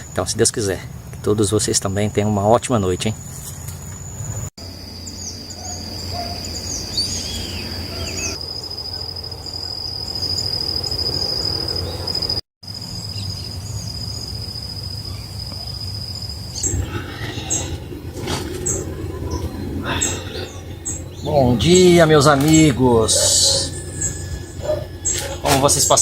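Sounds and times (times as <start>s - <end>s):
cricket-like trill: 0.0s - 26.0s
insects chirping: 0.0s - 26.0s.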